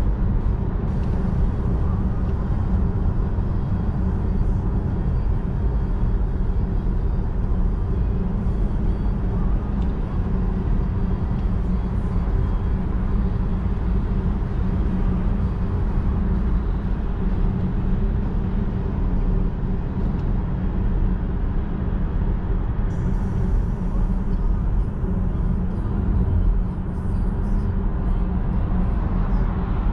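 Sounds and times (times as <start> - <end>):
car cabin road and wind noise: 0.0 - 29.9.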